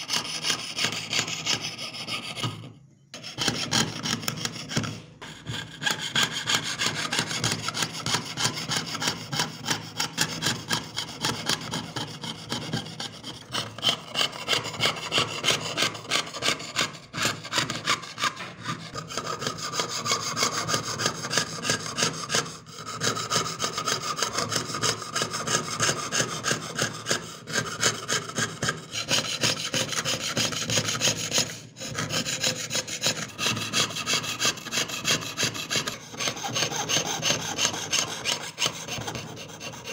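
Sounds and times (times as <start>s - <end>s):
saw cutting thin metal: 0.0s - 39.9s.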